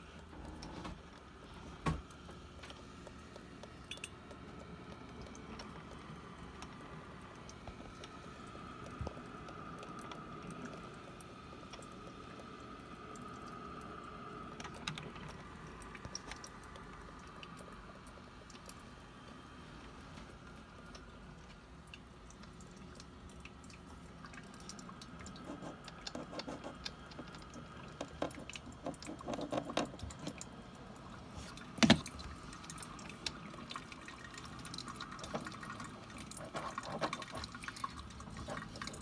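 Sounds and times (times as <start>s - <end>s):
coffee maker gurgling and hissing: 0.0s - 39.0s.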